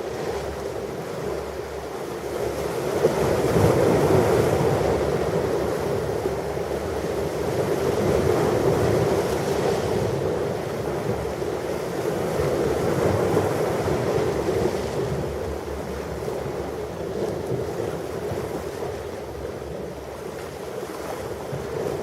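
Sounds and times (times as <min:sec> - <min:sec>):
ocean waves washing ashore: 0:00.0 - 0:22.0.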